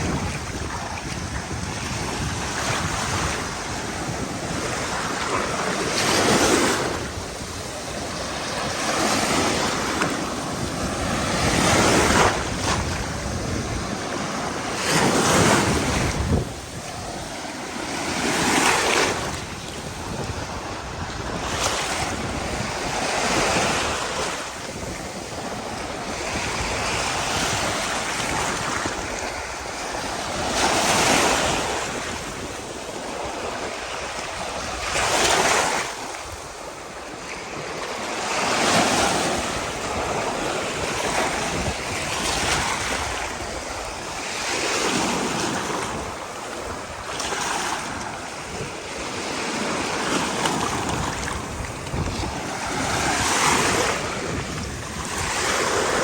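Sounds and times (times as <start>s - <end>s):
ocean waves breaking: 0.0s - 56.0s
wind rumble on microphone: 0.0s - 56.0s.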